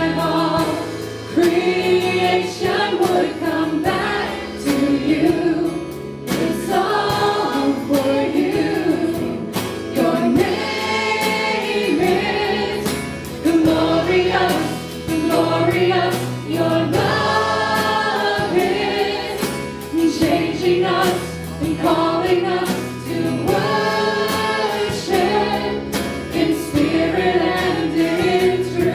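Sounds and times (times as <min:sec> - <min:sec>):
steady drum beat: 0:00.0 - 0:28.9
voices singing: 0:00.0 - 0:28.9
worship band playing: 0:00.0 - 0:28.9.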